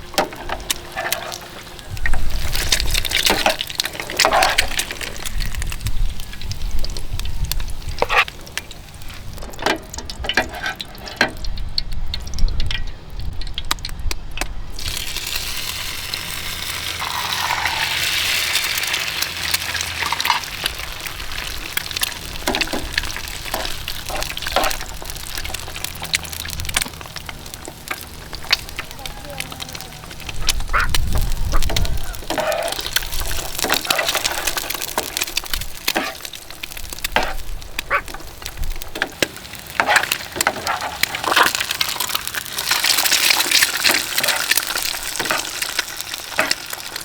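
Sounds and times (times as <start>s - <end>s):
food frying hiss: 0.0s - 47.0s.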